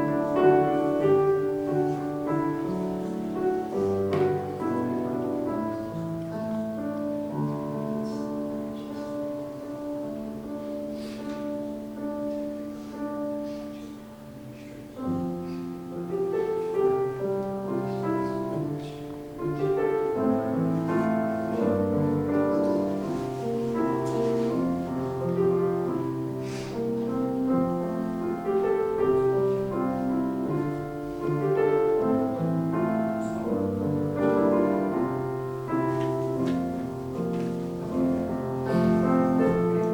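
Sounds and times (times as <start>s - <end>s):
slow piano music: 0.0s - 39.9s.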